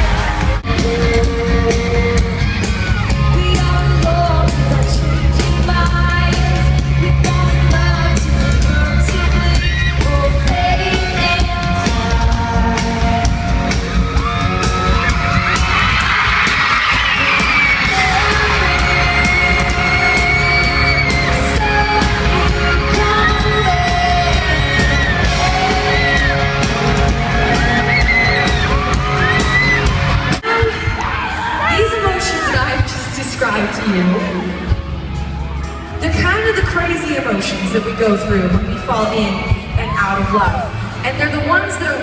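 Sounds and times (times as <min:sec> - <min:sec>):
amplified band with singer: 0:00.0 - 0:42.0
crowd yelling and singing along: 0:00.0 - 0:42.0.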